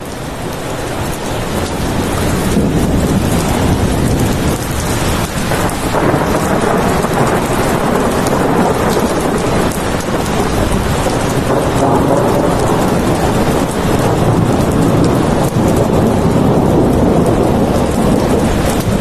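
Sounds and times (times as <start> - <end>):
heavy rain hiss: 0.0 - 19.0
deep rumble of thunder: 1.6 - 19.0.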